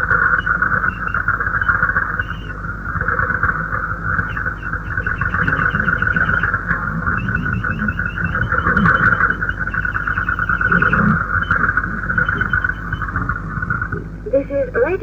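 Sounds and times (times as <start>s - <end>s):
faint wavering radio signal: 0.0s - 15.0s
radio static hiss: 0.0s - 15.0s.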